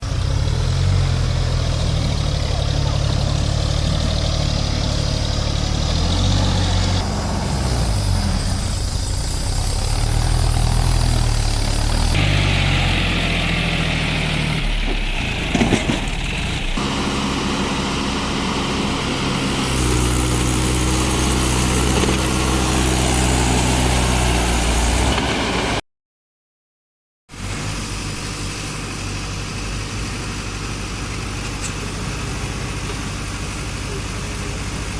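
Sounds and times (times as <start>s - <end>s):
heavy diesel machinery engines: 0.0s - 25.8s, 27.4s - 34.9s.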